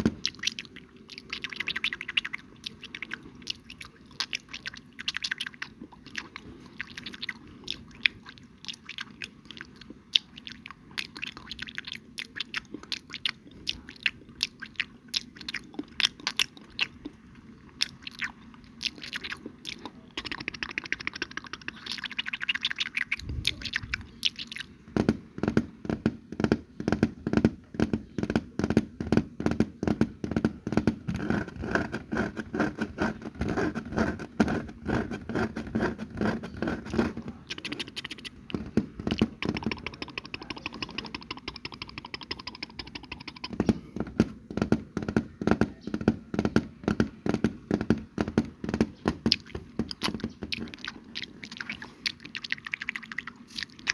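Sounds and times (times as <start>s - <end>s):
crunching and chewing: 0.0s - 24.9s, 30.7s - 44.4s, 49.2s - 53.9s.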